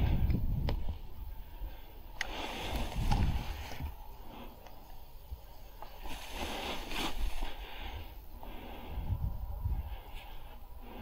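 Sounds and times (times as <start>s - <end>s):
rustling of clothing and grass: 0.0s - 11.0s
wind buffeting microphone: 0.0s - 11.0s.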